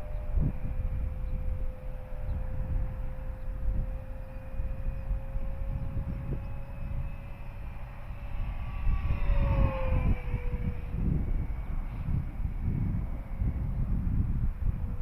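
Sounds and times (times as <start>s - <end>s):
model plane motor whine: 0.0s - 15.0s
wind buffeting microphone: 0.0s - 15.0s.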